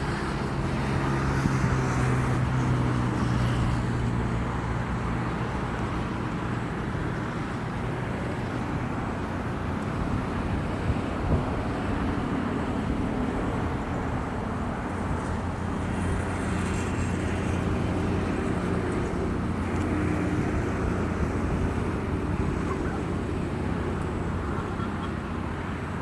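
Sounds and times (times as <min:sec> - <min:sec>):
road noise: 0:00.0 - 0:26.0
vehicle engine humming: 0:00.0 - 0:26.0.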